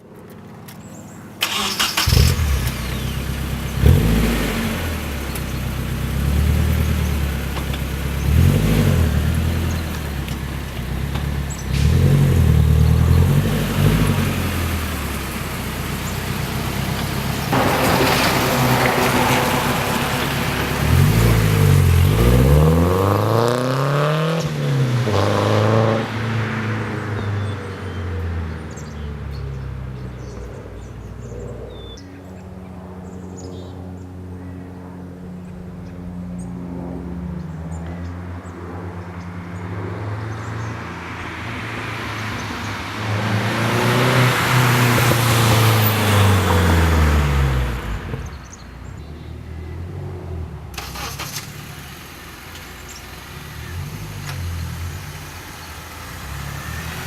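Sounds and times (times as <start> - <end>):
car engine revving and passing: 1.4 - 31.9, 35.7 - 57.0.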